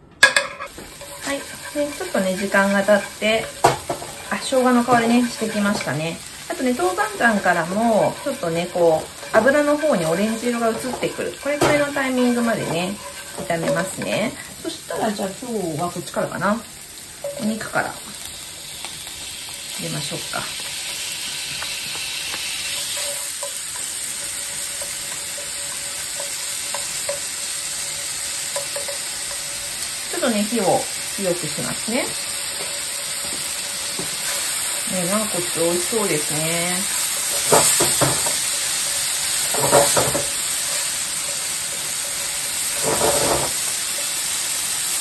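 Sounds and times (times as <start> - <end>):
food sizzling in hot oil: 0.2 - 45.0.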